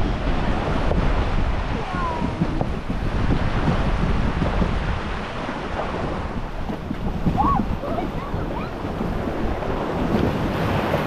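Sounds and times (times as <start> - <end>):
rushing splashing water: 0.0 - 11.0
wind buffeting microphone: 0.0 - 11.0.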